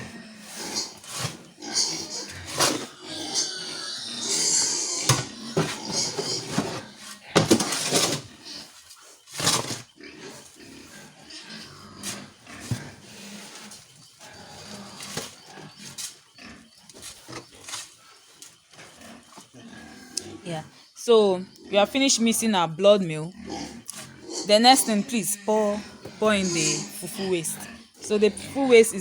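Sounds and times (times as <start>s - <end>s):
pigs grunting and squealing: 0.0s - 29.0s.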